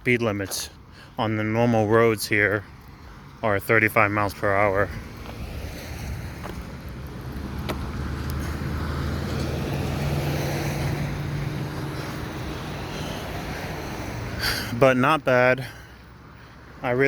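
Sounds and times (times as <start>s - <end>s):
car passing: 1.8s - 17.0s.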